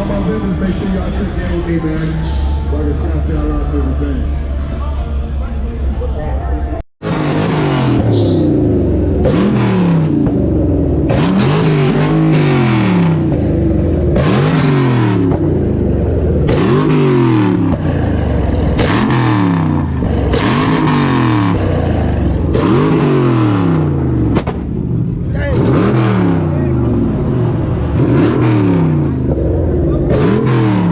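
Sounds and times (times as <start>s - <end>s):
car engine revving: 0.0s - 6.3s, 7.0s - 30.9s.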